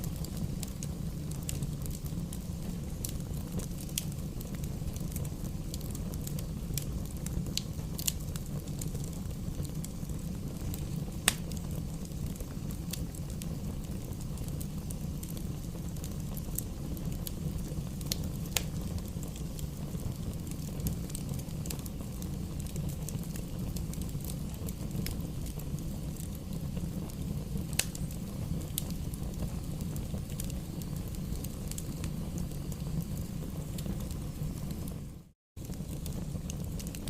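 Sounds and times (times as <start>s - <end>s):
bonfire crackling and popping: 0.0s - 37.0s.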